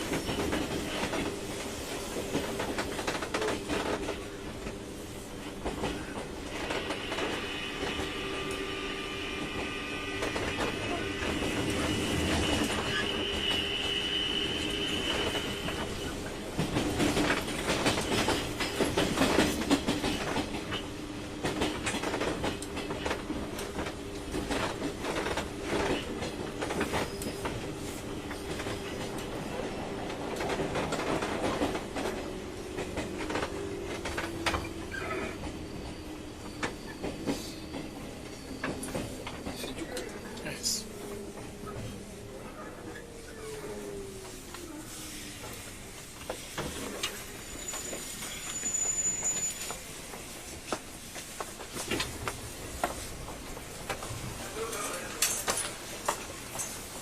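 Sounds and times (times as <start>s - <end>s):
train knocks and clatter: 0.0s - 43.2s, 45.4s - 57.0s
electric train hum: 0.0s - 57.0s.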